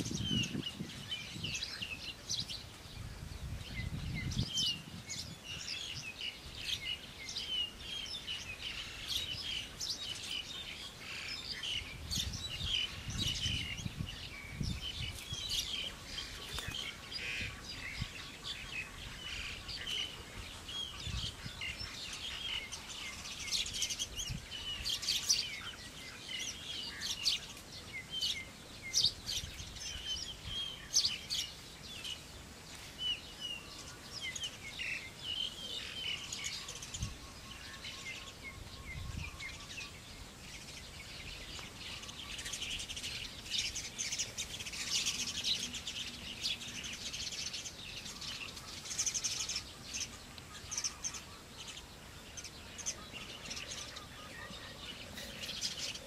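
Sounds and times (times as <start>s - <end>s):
wild birds chirping and calling: 0.0s - 56.0s.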